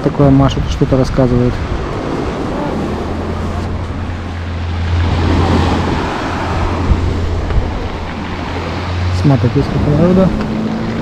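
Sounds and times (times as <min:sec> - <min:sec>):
boat engine humming: 0:00.0 - 0:11.0
sea waves washing: 0:00.0 - 0:11.0.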